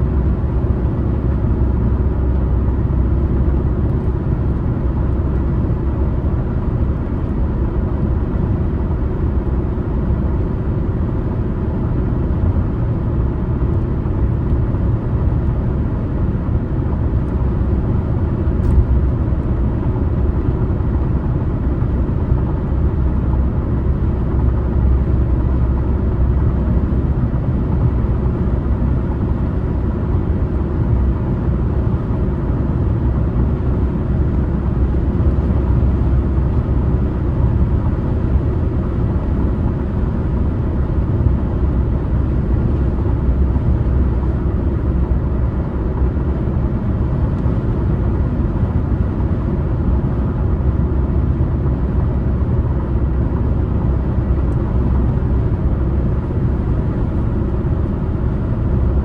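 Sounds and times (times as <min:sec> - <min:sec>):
car engine drone: 0:00.0 - 0:59.0
car tyre and road noise: 0:00.0 - 0:59.0.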